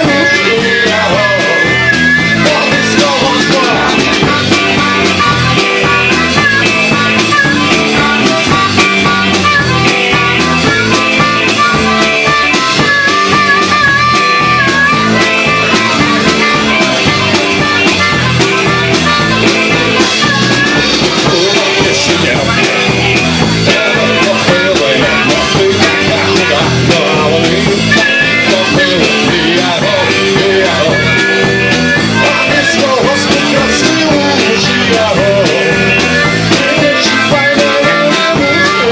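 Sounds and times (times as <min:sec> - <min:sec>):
driving drum beat: 0:00.0 - 0:38.9
guitar lines: 0:00.0 - 0:38.9
rockabilly band playing: 0:00.0 - 0:38.9.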